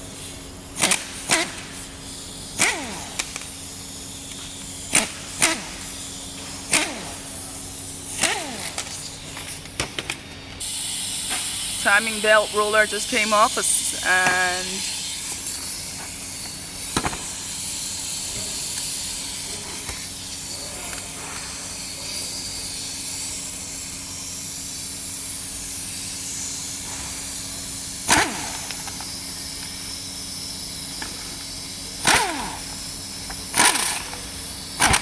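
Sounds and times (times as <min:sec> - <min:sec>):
power tool bursts: 0:00.2 - 0:35.0.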